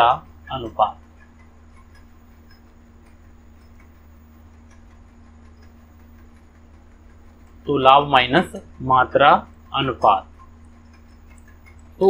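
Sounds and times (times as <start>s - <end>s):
faint ticks: 0.0s - 12.0s
low room hum: 0.0s - 12.0s.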